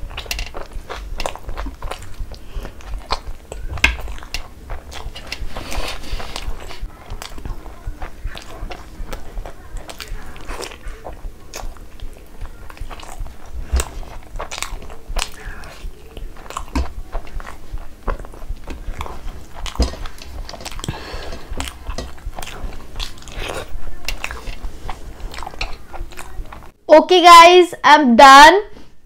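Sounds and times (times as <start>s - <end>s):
close chewing with wet smacks: 0.0s - 26.8s.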